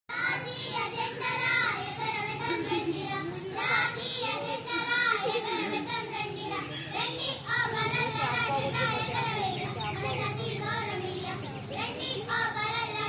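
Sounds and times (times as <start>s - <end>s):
children singing in unison: 0.1s - 13.0s.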